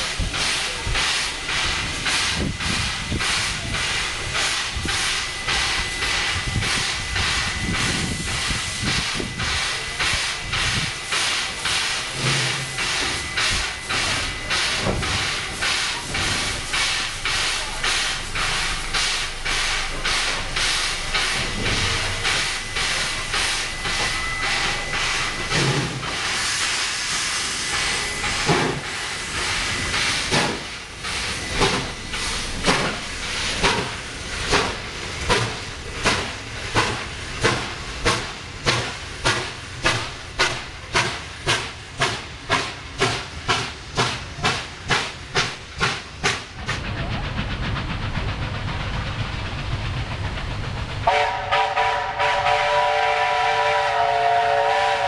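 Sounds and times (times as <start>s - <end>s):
hiss of steam: 0.0s - 55.0s
steam locomotive chuffing: 0.0s - 55.0s.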